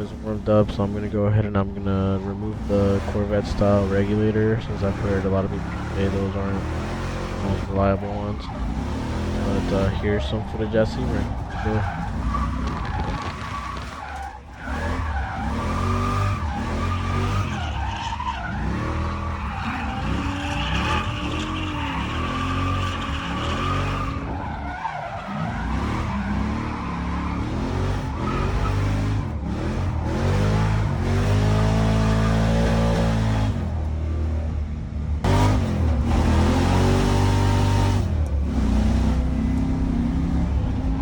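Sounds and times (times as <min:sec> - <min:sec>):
tyres squealing: 0:00.0 - 0:33.5
car engine revving: 0:00.0 - 0:41.0.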